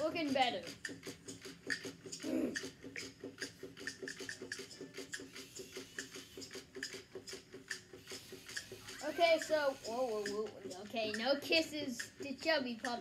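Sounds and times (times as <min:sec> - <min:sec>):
toy robot motor clicking and buzzing: 0:00.0 - 0:13.0.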